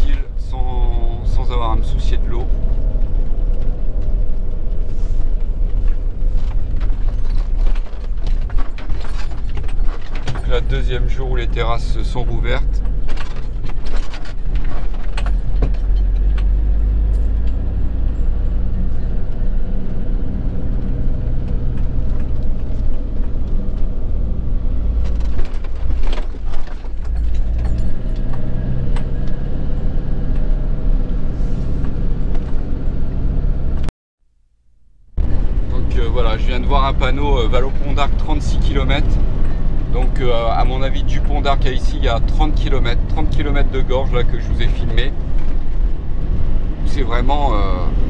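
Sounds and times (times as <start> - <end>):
road noise: 0.0 - 33.9, 35.0 - 48.0
van engine drone: 0.0 - 48.0.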